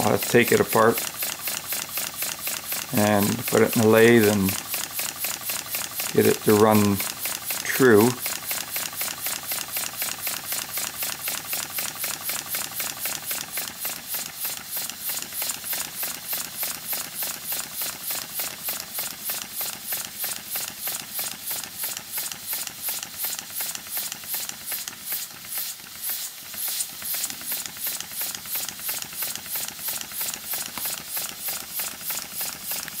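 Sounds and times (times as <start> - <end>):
model steam engine chuffing: 0.0 - 33.0.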